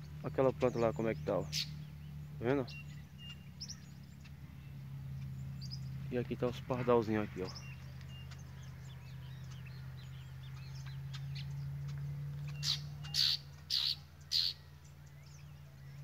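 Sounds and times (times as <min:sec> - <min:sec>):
harsh bird rasps: 0:00.0 - 0:16.0
small birds chirping: 0:00.0 - 0:16.0.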